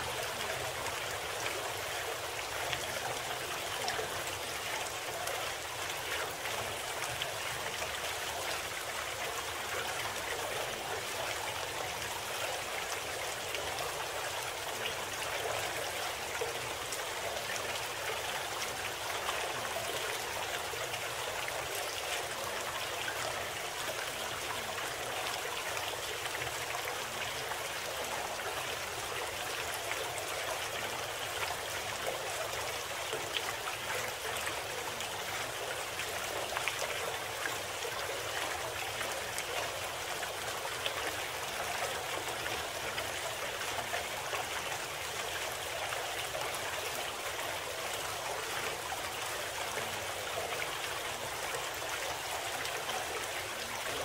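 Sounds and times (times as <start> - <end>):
rushing stream water: 0.0 - 54.0.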